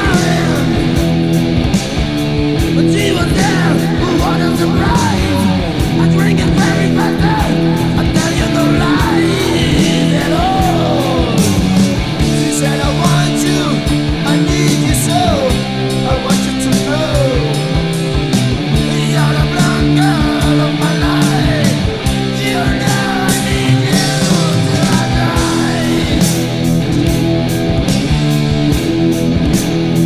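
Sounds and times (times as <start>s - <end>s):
bending lead guitar line: 0.0s - 30.0s
rock band playing: 0.0s - 30.0s.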